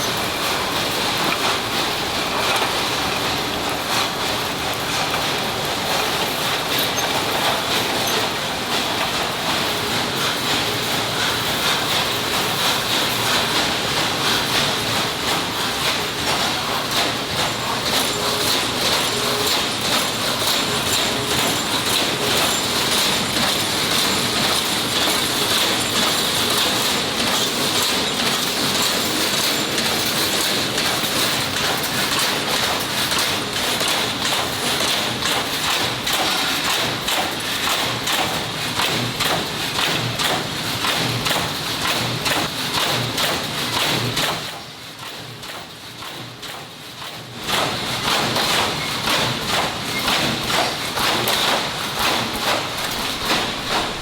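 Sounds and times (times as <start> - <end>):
factory machinery clattering: 0.0 - 54.0.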